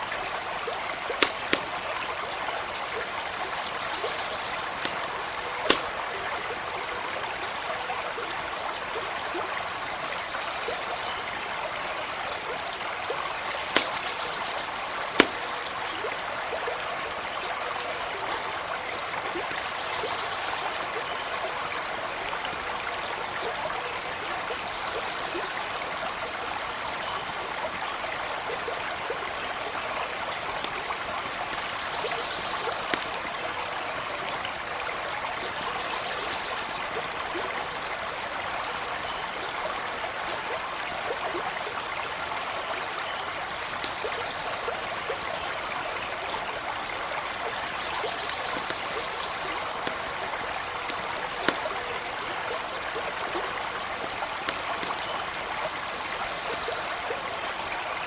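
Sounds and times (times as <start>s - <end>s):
campfire crackling: 0.0s - 56.2s
stream running: 0.0s - 58.0s.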